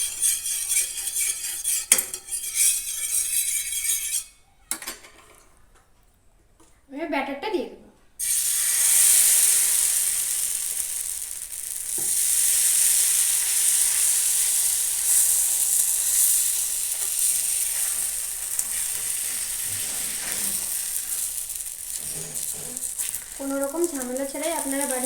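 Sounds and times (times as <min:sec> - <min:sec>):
batter sizzling on a griddle: 0:00.0 - 0:04.3, 0:08.2 - 0:25.0.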